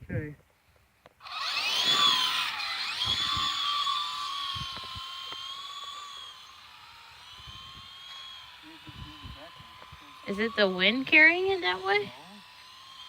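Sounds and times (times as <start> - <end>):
toy helicopter motors whining: 1.2 - 13.0.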